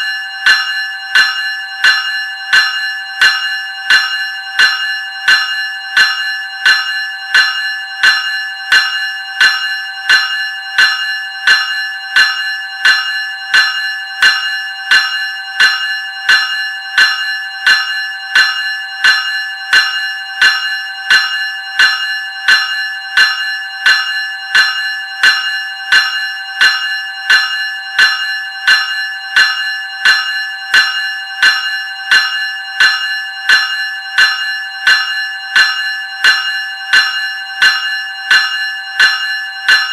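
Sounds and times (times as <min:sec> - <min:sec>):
electric bell ringing: 0:00.0 - 0:39.9.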